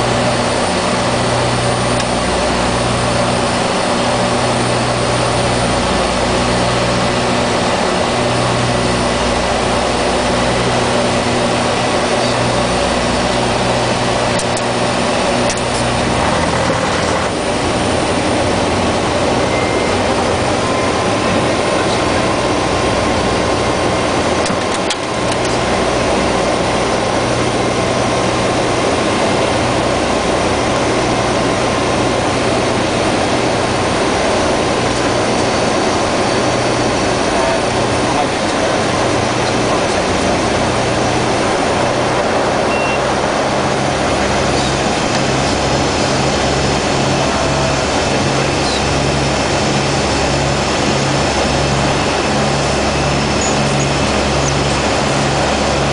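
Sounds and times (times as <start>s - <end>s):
turboprop engines droning: 0.0s - 55.9s.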